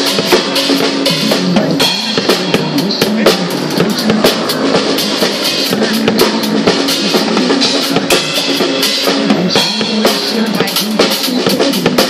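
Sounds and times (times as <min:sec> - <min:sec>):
drum kit playing: 0:00.0 - 0:12.0
pop song backing track: 0:00.0 - 0:12.0.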